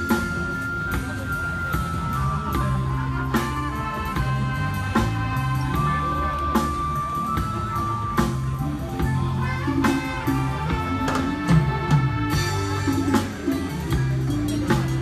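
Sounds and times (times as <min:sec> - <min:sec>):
bass line: 0:00.0 - 0:15.0
drum kit: 0:00.0 - 0:15.0
held lead notes: 0:00.0 - 0:15.0.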